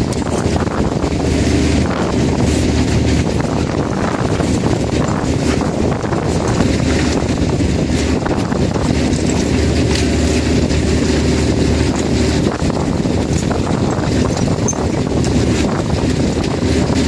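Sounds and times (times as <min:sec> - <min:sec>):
boat engine humming: 0:00.0 - 0:17.0
wind buffeting microphone: 0:00.0 - 0:17.0.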